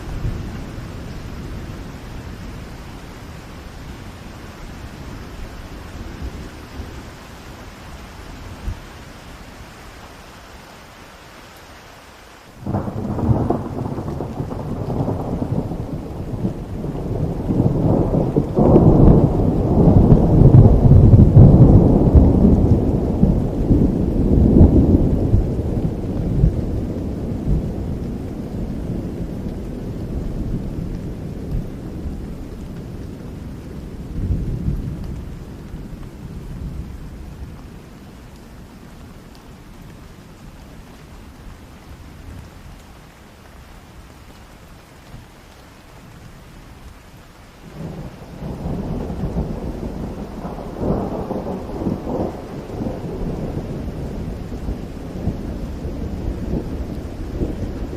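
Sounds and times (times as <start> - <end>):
thunder rumbling: 0.0 - 9.4, 12.6 - 42.8, 47.6 - 57.9
steady rain: 0.0 - 57.9.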